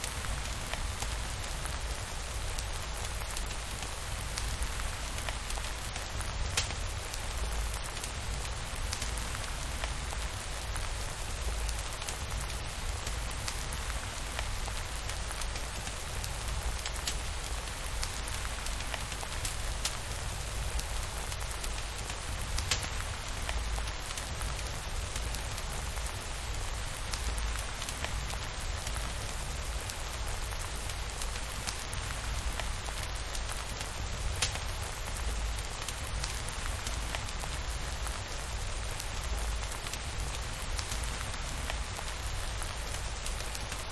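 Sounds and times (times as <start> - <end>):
steady rainfall: 0.0 - 43.9.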